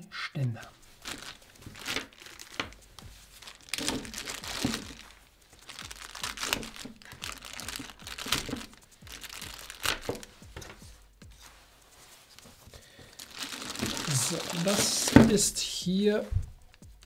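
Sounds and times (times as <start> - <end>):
plastic bag crinkling: 0.8 - 10.9, 12.0 - 15.9.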